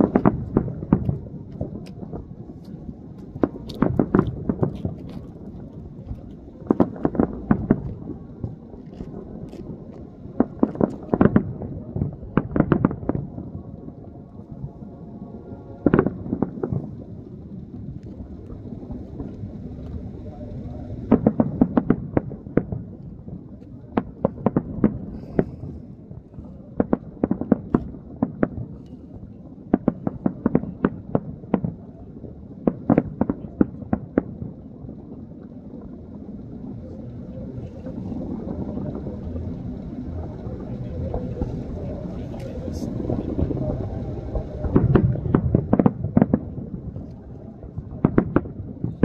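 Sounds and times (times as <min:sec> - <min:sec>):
distant explosive blasts: 0:00.0 - 0:14.7, 0:21.0 - 0:49.0
low rumble: 0:00.0 - 0:49.0.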